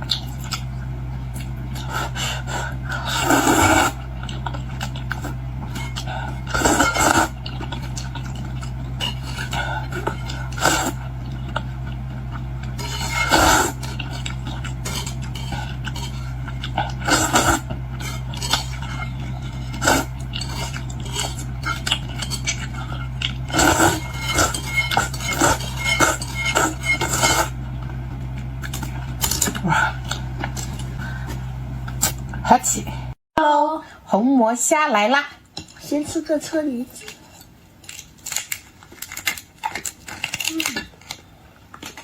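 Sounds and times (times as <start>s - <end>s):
steady low hum: 0.0s - 34.1s.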